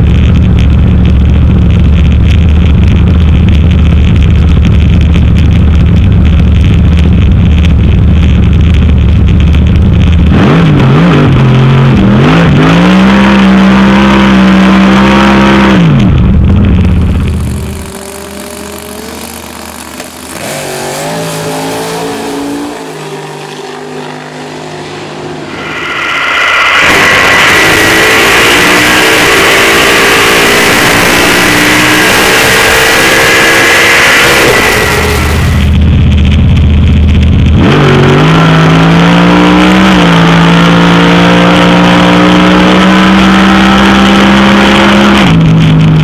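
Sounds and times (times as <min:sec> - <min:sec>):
car engine revving: 0:00.0 - 0:46.0
high whine: 0:00.0 - 0:46.0.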